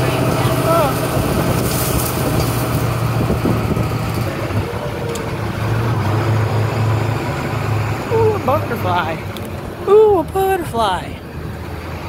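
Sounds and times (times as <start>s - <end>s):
ride noise rumble: 0.0s - 12.0s
truck engine droning: 0.0s - 12.0s.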